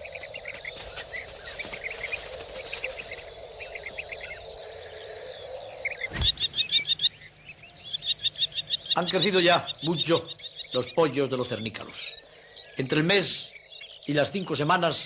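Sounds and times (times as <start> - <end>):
loud high bird calls: 0.0 - 15.0
small birds chirping: 0.0 - 15.0.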